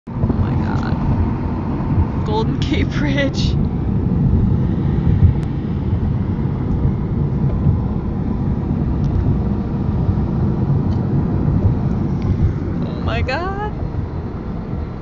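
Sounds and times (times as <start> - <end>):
car road and engine rumble: 0.1 - 15.0.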